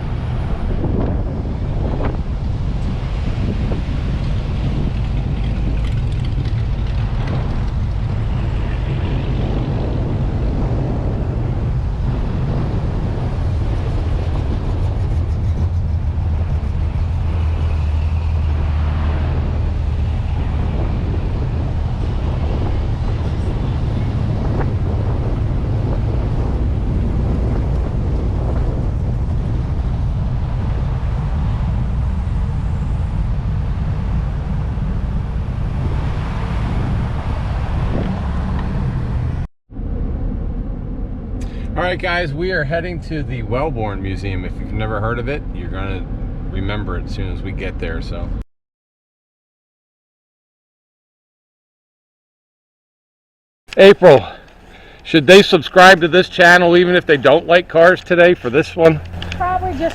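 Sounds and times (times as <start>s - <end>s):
car engine and road rumble: 0.0s - 48.4s, 53.7s - 59.9s.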